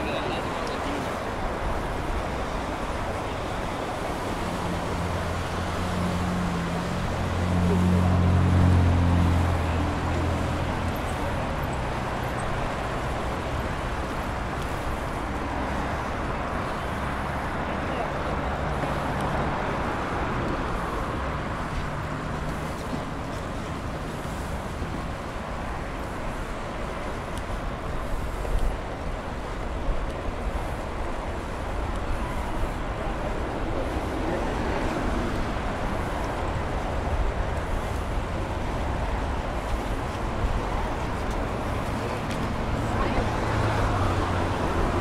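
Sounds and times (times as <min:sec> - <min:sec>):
bicycle wind and tyre rush: 0:00.0 - 0:45.0
road traffic noise: 0:00.0 - 0:45.0.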